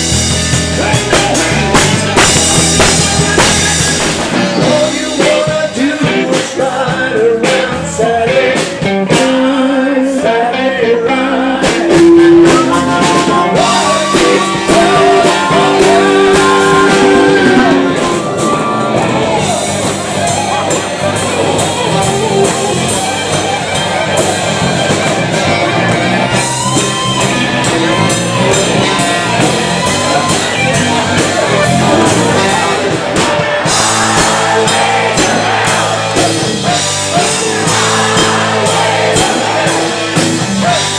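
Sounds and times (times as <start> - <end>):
live blues-rock band: 0.0 - 40.9
person singing: 0.2 - 24.0, 25.1 - 40.9.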